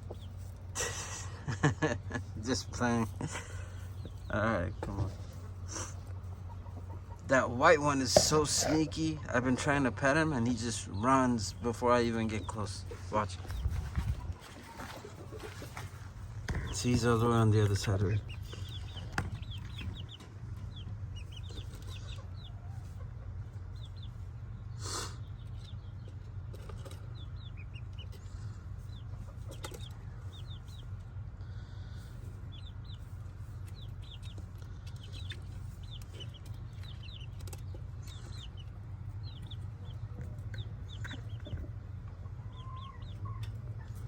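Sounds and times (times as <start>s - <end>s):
steady low hum: 0.0s - 44.0s
young chickens peeping: 0.0s - 44.0s.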